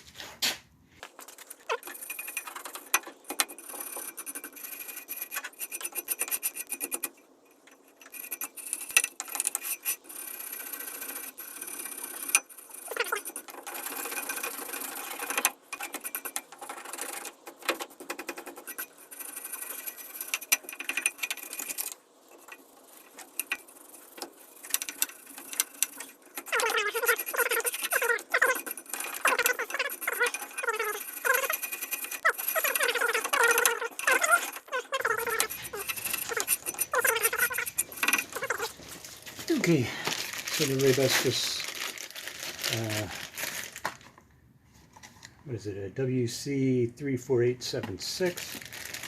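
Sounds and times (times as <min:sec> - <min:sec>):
wire brush scrubbing metal: 0:01.3 - 0:43.3.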